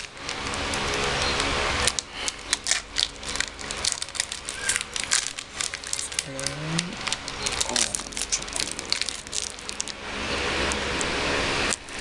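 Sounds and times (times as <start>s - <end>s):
plastic wrapper crinkling: 0.0s - 10.0s.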